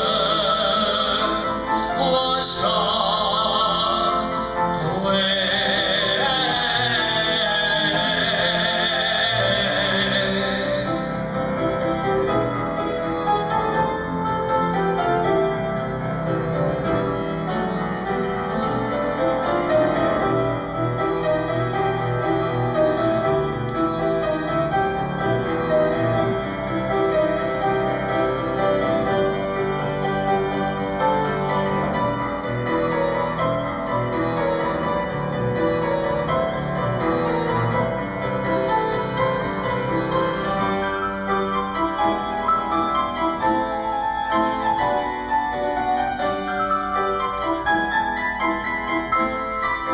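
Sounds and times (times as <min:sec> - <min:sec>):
instrumental piano music: 0:00.0 - 0:49.9.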